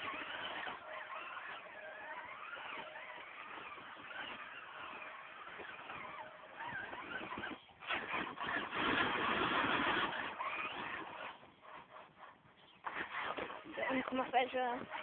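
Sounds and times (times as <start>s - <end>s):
rc car electric motor whining: 0.0s - 15.0s.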